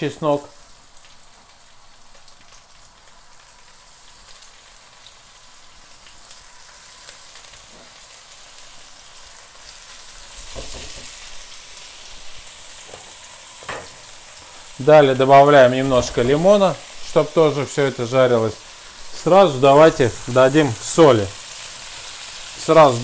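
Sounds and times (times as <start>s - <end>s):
frying sizzle with crackles: 0.0s - 23.0s.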